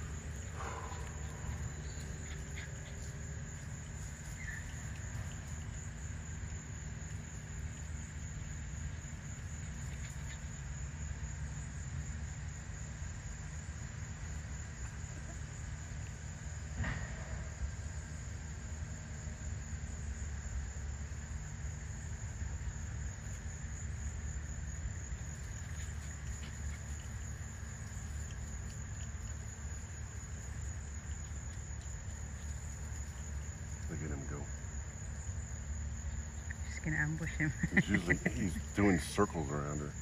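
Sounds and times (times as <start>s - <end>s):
insects trilling: 0.0s - 40.0s.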